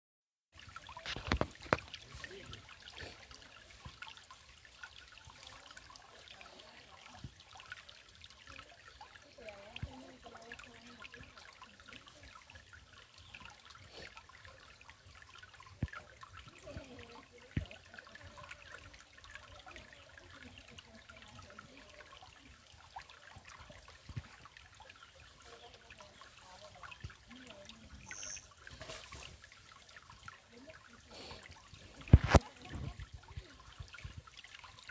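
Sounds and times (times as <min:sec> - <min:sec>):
small clicks and splashes: 0:00.5 - 0:34.9
water trickling: 0:00.5 - 0:34.9.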